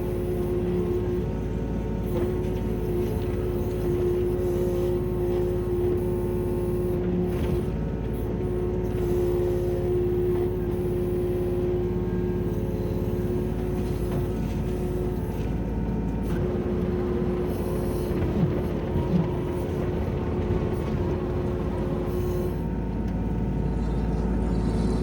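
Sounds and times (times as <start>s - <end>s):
excavator diesel engine running: 0.0s - 25.0s
mid-pitched engine whine: 0.0s - 25.0s.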